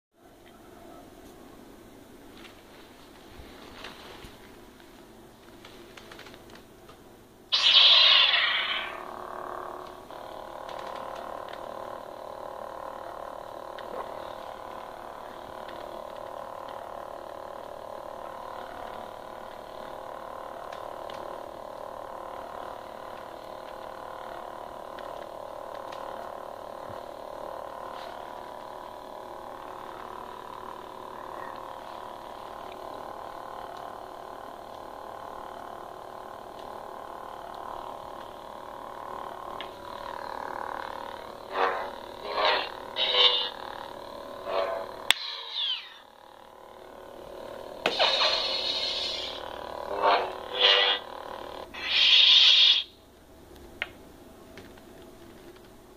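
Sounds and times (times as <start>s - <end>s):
lightsaber idle hum: 7.5s - 55.1s.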